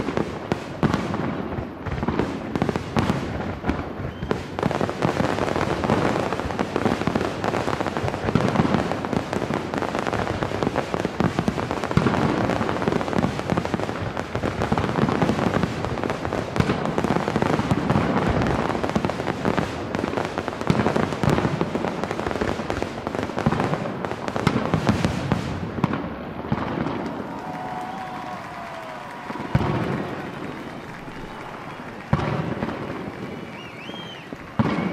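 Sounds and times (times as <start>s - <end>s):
fireworks bursting and crackling: 0.0s - 34.9s.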